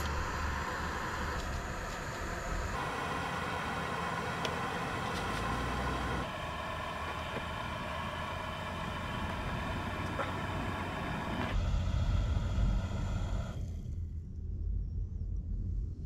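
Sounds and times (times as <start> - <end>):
camp stove burner running: 0.0 - 13.6.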